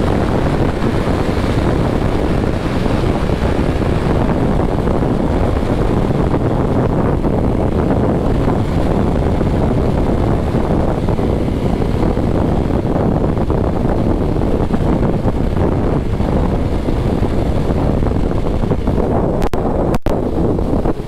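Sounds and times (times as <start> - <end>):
motorcycle running: 0.0 - 21.0
road noise: 0.0 - 21.0
wind buffeting the microphone: 0.0 - 21.0.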